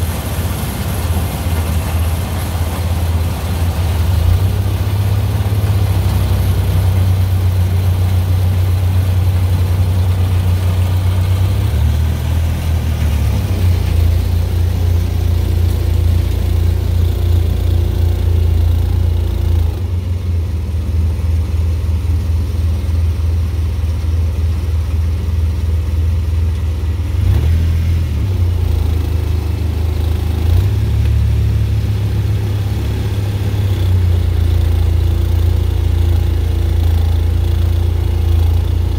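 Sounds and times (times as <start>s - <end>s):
corn picker machinery working: 0.0s - 21.0s, 26.4s - 38.9s
tractor engine running under load: 0.0s - 38.9s.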